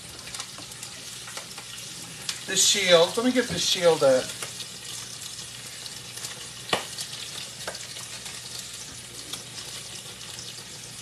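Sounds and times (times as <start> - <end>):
chicken frying in hot grease: 0.0 - 11.0.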